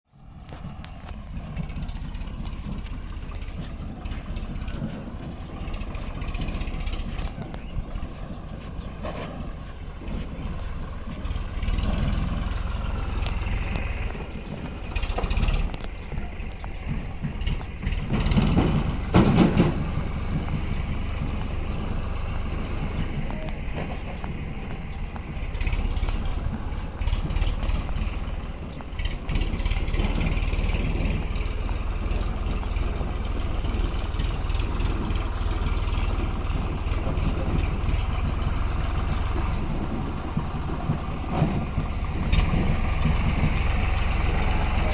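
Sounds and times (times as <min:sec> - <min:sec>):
tractor engine running: 0:00.0 - 0:44.9
knocks and clatter: 0:00.3 - 0:44.9.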